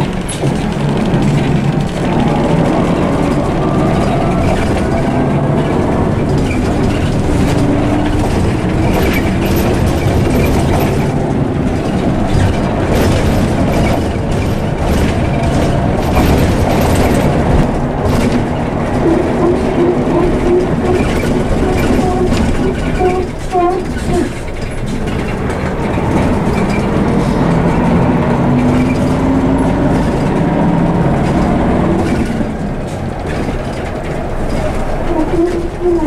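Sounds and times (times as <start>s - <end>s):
bus diesel engine running: 0.0s - 36.0s
panels rattling: 0.0s - 36.0s
road noise: 0.0s - 36.0s.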